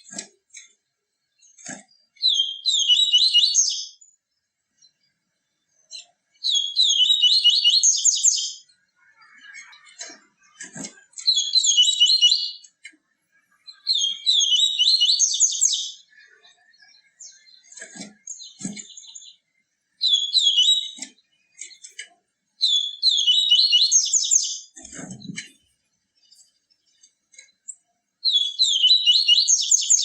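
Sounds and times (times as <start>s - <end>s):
bird chirping song: 0.0s - 30.0s.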